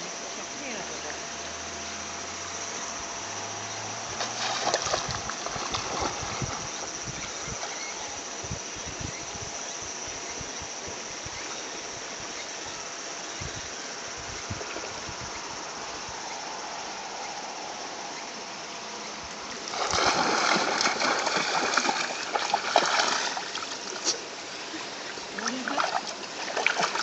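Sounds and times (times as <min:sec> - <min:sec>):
river water flowing: 0:00.0 - 0:08.8, 0:10.1 - 0:27.0
high-pitched insect chorus: 0:00.0 - 0:27.0.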